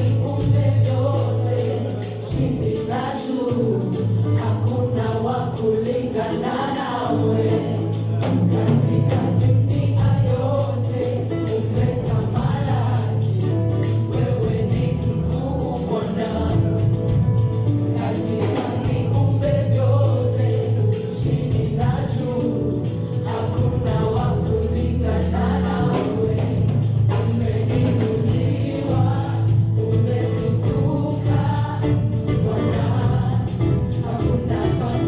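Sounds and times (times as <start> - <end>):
bass line: 0.0 - 35.0
gospel band playing: 0.0 - 35.0
group of voices singing: 0.0 - 35.0
percussion beats: 0.0 - 35.0.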